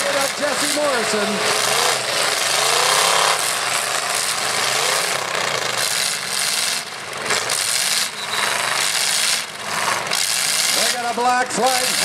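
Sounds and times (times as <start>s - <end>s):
loud steady noise: 0.0s - 12.0s
truck engines revving: 0.0s - 12.0s.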